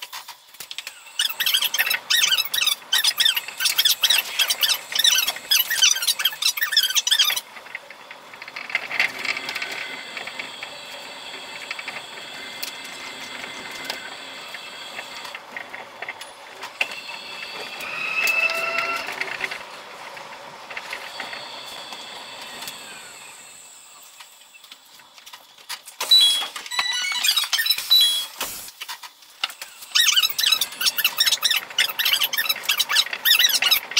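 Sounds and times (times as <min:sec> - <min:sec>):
high-pitched monorail running noise: 0:00.0 - 0:33.9.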